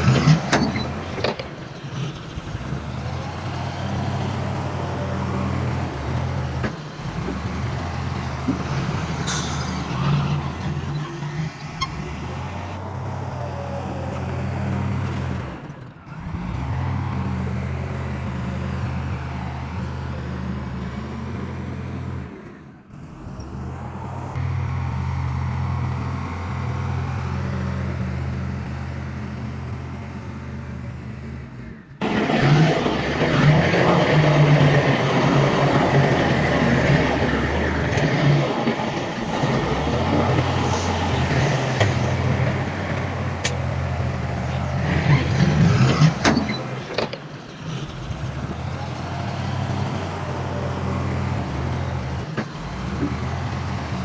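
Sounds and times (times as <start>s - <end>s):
heavy machinery diesel engines: 0.0s - 54.0s.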